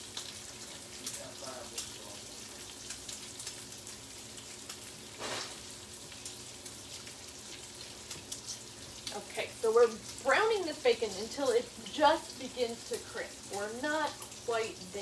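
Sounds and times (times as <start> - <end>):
bacon sizzling in a frying pan: 0.0 - 15.0.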